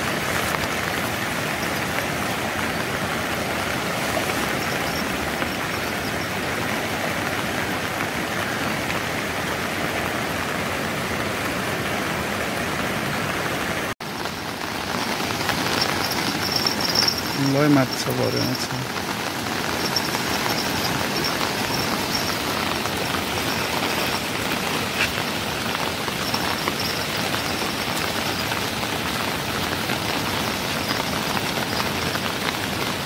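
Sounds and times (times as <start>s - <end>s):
rain falling: 0.0s - 33.0s
river rushing: 0.0s - 33.0s.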